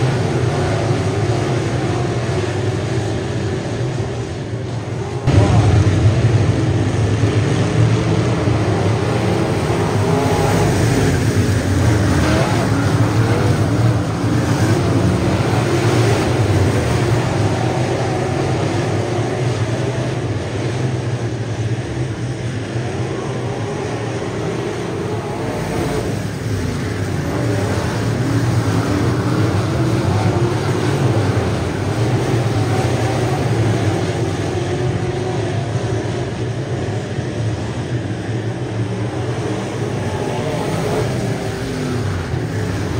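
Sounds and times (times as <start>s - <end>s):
race car engines passing by: 0.0s - 42.9s.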